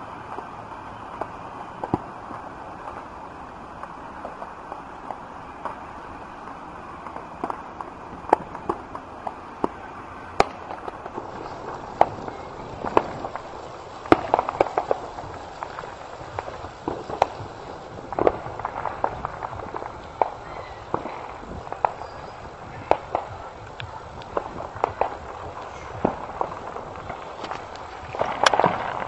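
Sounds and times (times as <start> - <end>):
firecrackers popping: 0.0 - 29.0.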